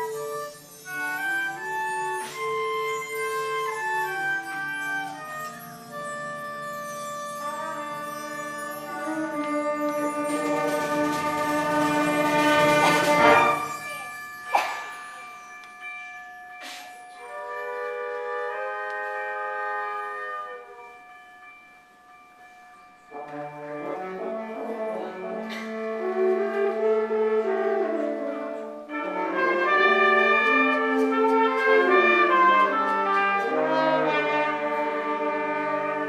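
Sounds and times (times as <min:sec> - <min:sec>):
brass-led orchestral music: 0:00.0 - 0:14.7, 0:17.2 - 0:21.0, 0:23.1 - 0:36.0.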